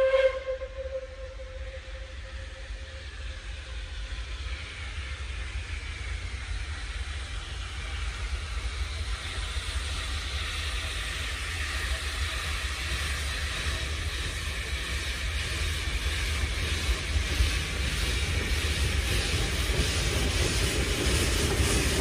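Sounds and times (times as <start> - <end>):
steam locomotive exhaust hissing: 0.0 - 22.0.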